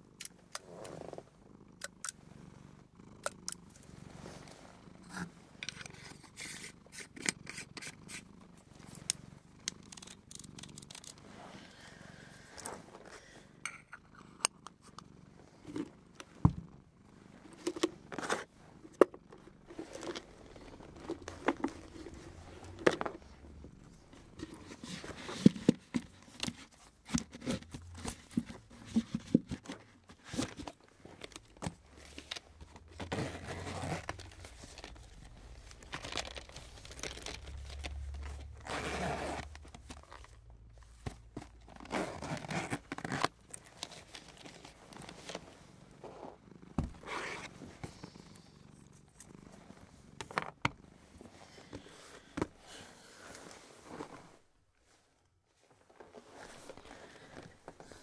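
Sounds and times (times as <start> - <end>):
rubbing and crinkling: 3.4 - 13.4, 17.1 - 58.0.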